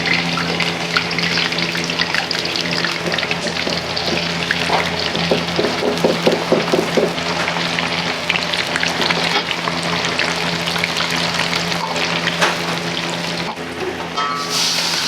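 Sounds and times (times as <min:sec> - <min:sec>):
food sizzling in hot oil: 0:00.0 - 0:13.6, 0:14.3 - 0:15.0.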